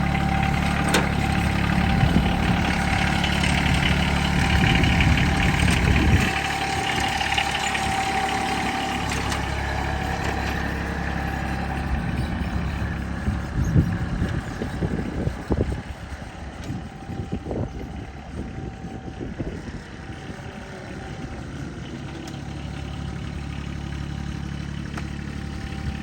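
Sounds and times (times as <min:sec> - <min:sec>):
lawn tractor diesel engine running: 0:00.0 - 0:26.0.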